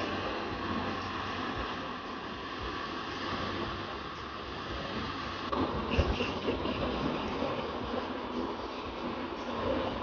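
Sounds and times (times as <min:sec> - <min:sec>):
heavy vehicle rumble with whine: 0:00.0 - 0:10.0
wind-like outdoor noise: 0:00.0 - 0:10.0.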